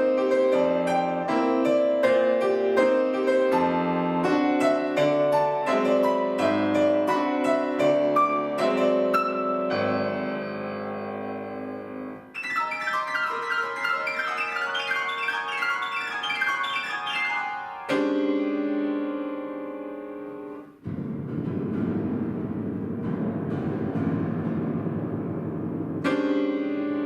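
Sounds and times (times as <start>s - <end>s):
solo piano: 0.0s - 27.0s.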